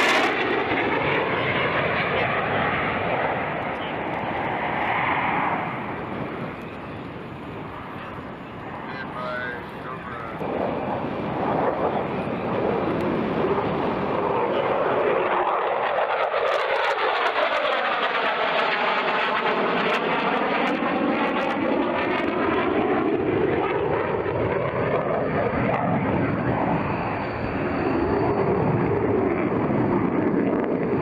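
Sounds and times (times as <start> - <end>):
jet engine roar: 0.0 - 31.0.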